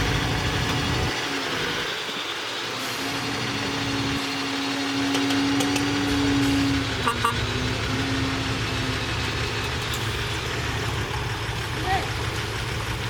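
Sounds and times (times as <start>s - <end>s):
heavy machinery diesel engine: 0.0s - 13.0s.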